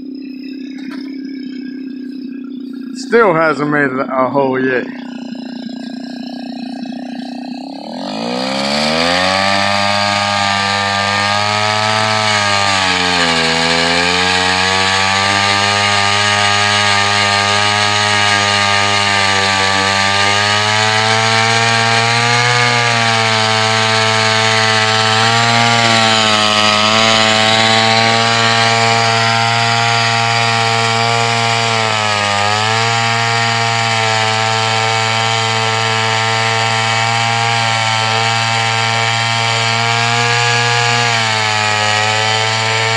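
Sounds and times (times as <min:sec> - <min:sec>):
ice auger engine revving: 0:04.8 - 0:42.9.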